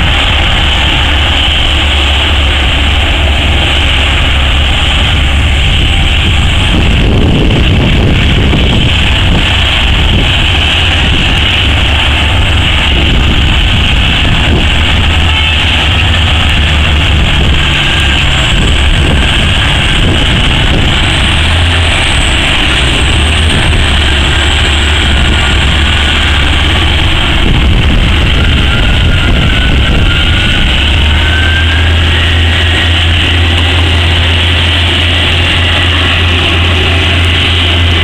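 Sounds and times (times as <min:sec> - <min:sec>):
heavy diesel engines rumbling: 0:00.0 - 0:38.0.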